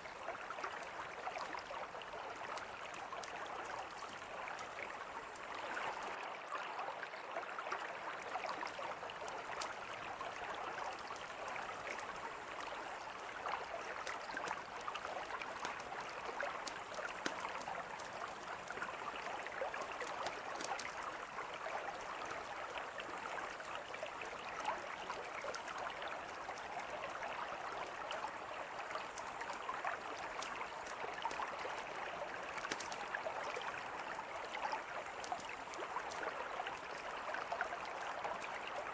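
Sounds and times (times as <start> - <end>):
river flowing: 0.0 - 38.9
campfire crackling: 2.0 - 6.2, 8.6 - 38.5.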